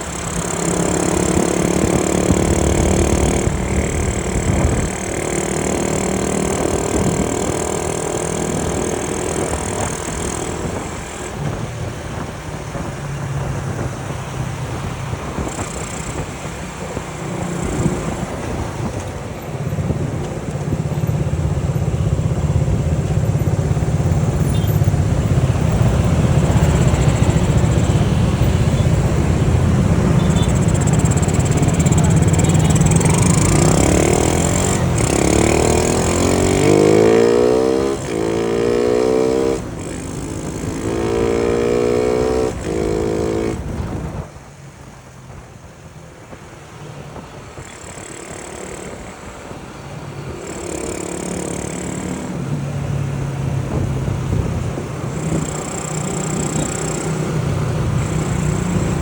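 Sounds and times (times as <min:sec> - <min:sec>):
motorcycle engine accelerating: 0:00.0 - 0:44.6, 0:46.3 - 0:59.0.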